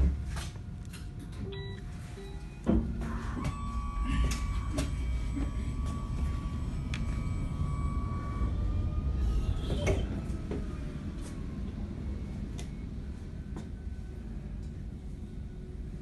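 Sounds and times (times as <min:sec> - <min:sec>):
tram rumbling on rails: 0:00.0 - 0:16.0
thin steady whine: 0:01.5 - 0:16.0.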